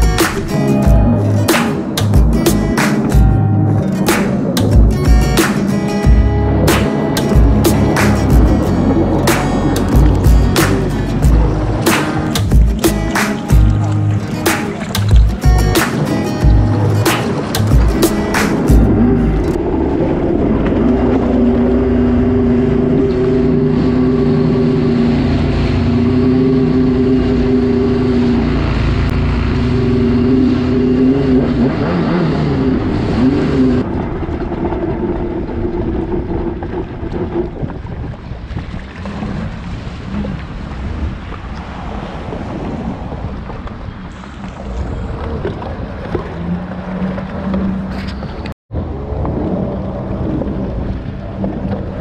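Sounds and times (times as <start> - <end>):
jet ski engine running: 0.0 - 41.6, 42.6 - 52.0
water rushing: 0.0 - 52.0
water splashing: 0.0 - 52.0.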